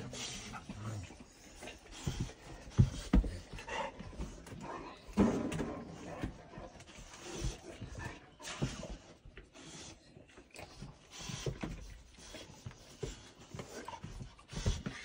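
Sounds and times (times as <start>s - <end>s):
dogs breathing and snuffling: 0.0s - 15.0s
dogs shuffling and rustling: 0.0s - 15.0s.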